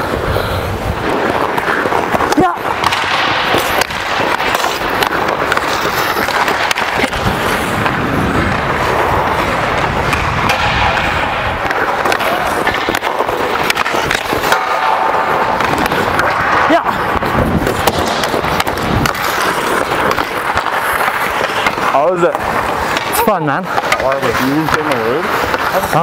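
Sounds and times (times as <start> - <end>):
skate blades scraping ice: 0.0 - 26.0
stick clacking on puck: 1.1 - 7.6, 10.0 - 16.5, 17.2 - 26.0.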